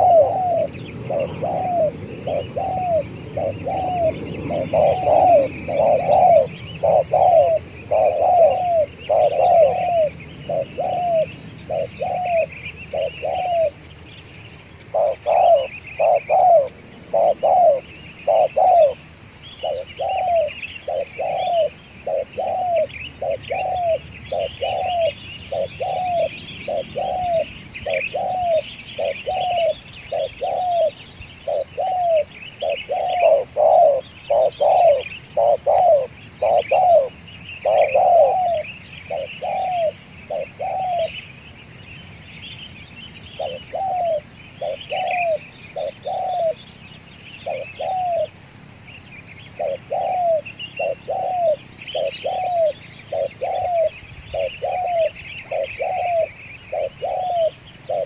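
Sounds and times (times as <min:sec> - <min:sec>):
dove cooing: 0:00.0 - 0:13.9, 0:14.7 - 0:41.4, 0:43.3 - 0:46.7, 0:47.4 - 0:48.4, 0:49.4 - 0:58.0
small birds chirping: 0:00.0 - 0:58.0.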